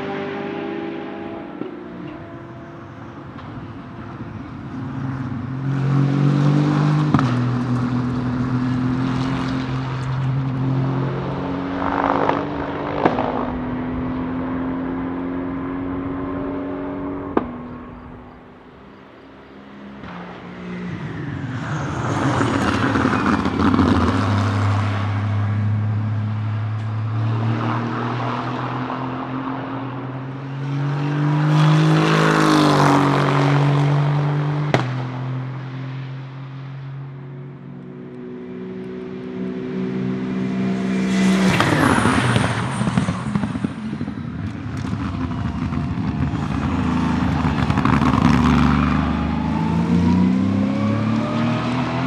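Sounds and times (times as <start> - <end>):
racing car accelerating: 0.0 - 36.8, 37.4 - 52.0
racing engine passing: 0.0 - 52.0.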